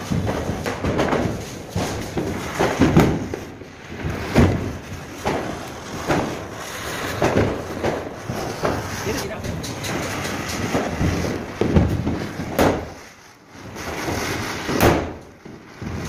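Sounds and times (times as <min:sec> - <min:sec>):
firework pops and thumps: 0:00.0 - 0:16.0
spinner fireworks hissing: 0:00.0 - 0:16.0.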